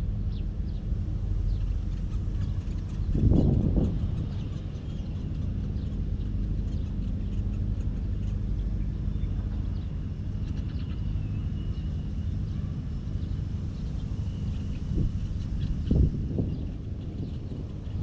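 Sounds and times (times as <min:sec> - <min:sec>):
low rumble with humming drone: 0:00.0 - 0:18.0
small birds chirping: 0:00.3 - 0:18.0.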